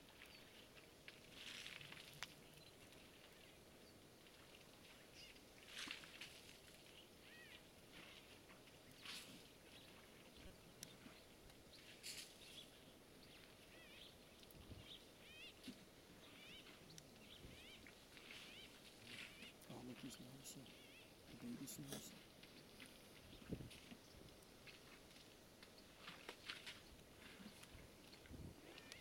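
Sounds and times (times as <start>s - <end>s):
small birds chirping: 1.7s - 5.4s, 6.8s - 29.0s.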